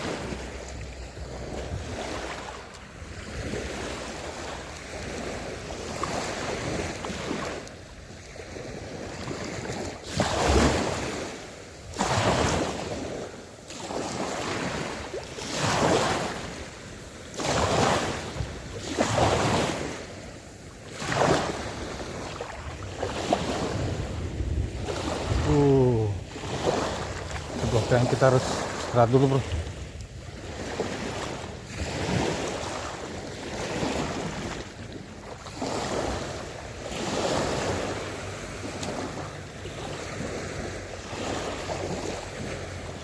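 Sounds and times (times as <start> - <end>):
small waves breaking: 0.0 - 43.0.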